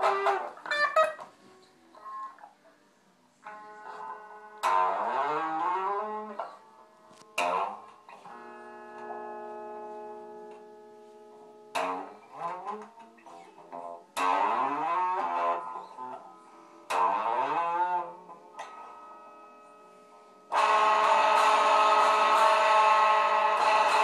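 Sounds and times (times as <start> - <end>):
electric guitar solo: 0.0 - 2.5, 3.4 - 24.0
guitar chord ringing: 3.4 - 24.0.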